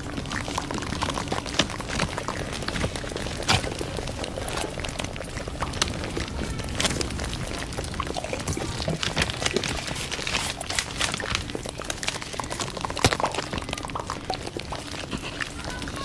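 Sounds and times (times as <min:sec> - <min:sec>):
paper crinkling: 0:00.4 - 0:16.0.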